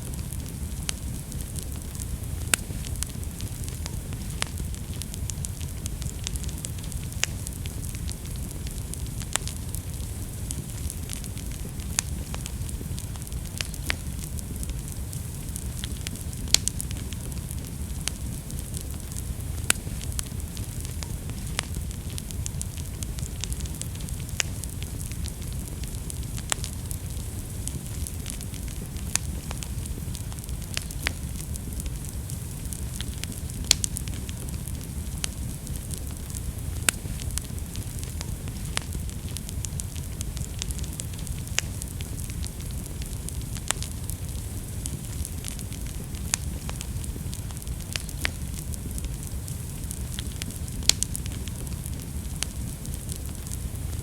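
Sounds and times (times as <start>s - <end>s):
fireplace fire crackling and popping: 0.0s - 54.0s.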